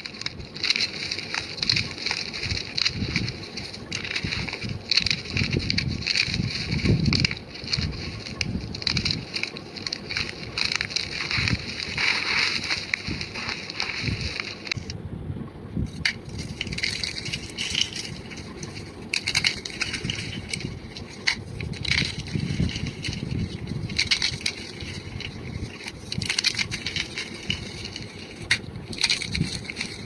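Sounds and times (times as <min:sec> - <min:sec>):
chalk cracking: 0:00.0 - 0:14.9, 0:15.9 - 0:30.0
low crunching: 0:00.0 - 0:30.0.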